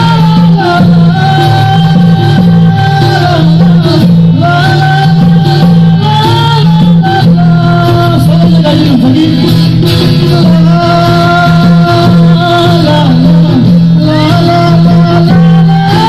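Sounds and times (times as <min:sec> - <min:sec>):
hand drum: 0:00.0 - 0:16.0
man singing: 0:00.0 - 0:16.0
strummed acoustic guitars: 0:00.0 - 0:16.0.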